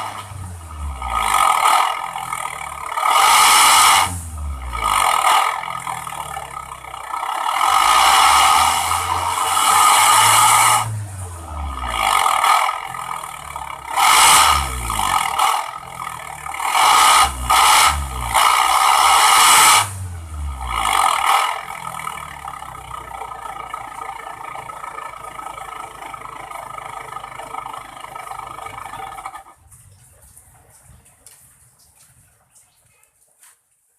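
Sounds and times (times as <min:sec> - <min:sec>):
car engine revving and idling: 0:00.0 - 0:30.2.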